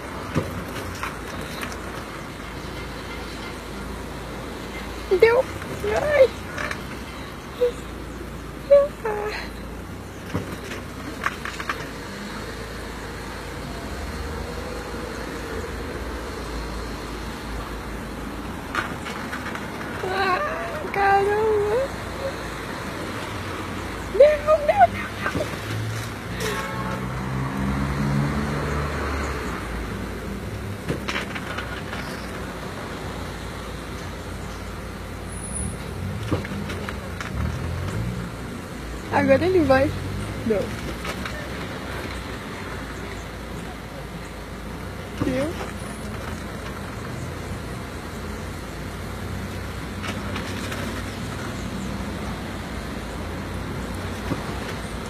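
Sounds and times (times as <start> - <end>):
street traffic noise: 0.0 - 55.0.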